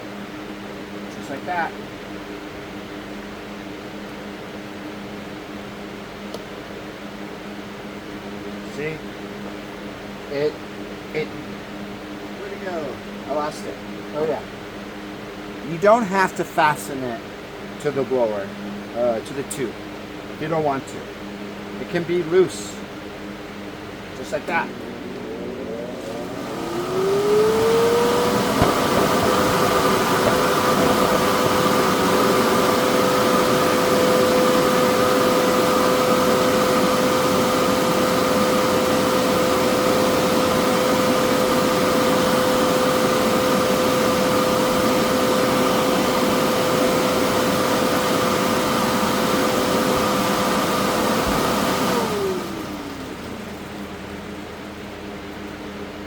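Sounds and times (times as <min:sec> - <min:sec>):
blower fan motor whine: 0:00.0 - 0:56.0.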